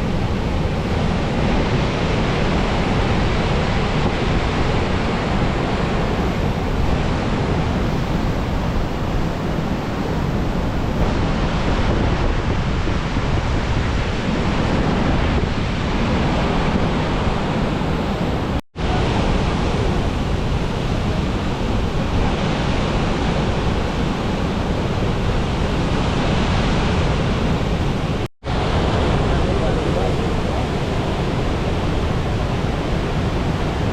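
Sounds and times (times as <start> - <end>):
water rushing through dam spillway: 0.0 - 33.9.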